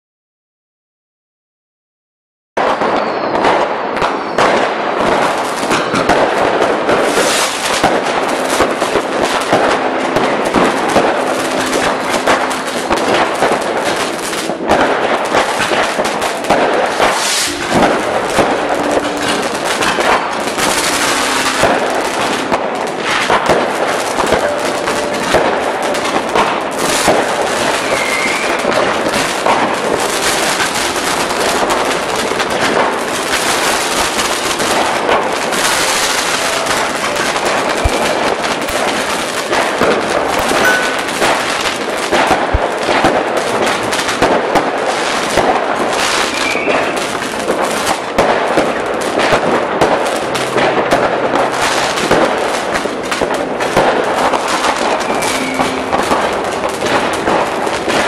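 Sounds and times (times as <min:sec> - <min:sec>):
fireworks crackling and banging: 0:02.6 - 0:58.0
rising firework whistle: 0:02.6 - 0:58.0.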